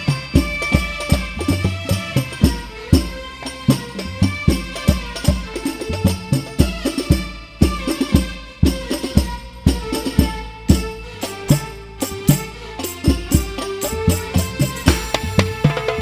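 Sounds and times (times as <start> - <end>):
frame drums fast rhythm: 0.0 - 16.0.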